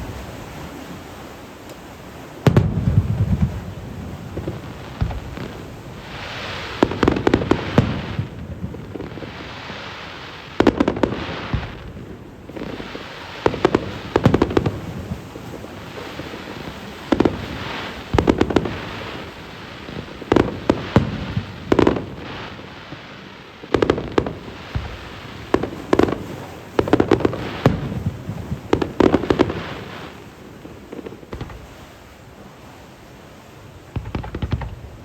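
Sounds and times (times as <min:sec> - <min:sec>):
fireworks bursting with bangs: 0:00.0 - 0:35.0
fireworks crackles: 0:00.0 - 0:35.0.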